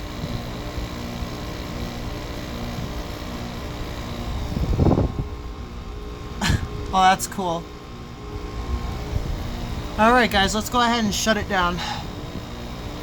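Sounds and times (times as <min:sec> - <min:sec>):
air conditioner running: 0:00.0 - 0:13.0.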